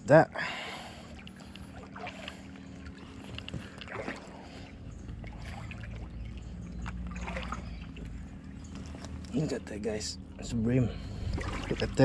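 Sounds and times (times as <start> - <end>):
low hum: 0.0 - 12.0
light splashes in shallow water: 0.5 - 9.6, 10.2 - 12.0.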